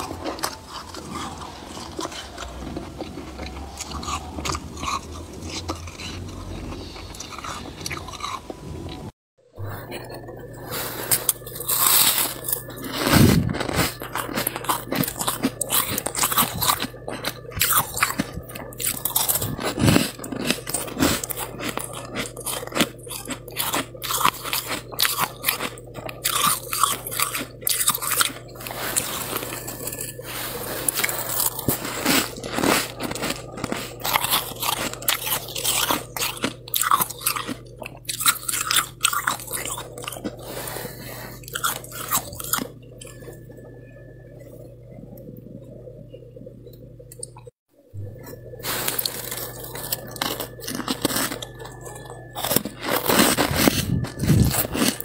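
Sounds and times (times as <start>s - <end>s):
frost being chewed: 0.0s - 55.0s.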